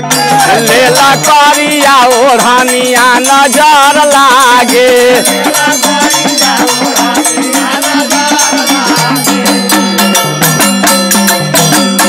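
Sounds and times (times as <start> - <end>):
fast hand drumming: 0.0 - 12.0.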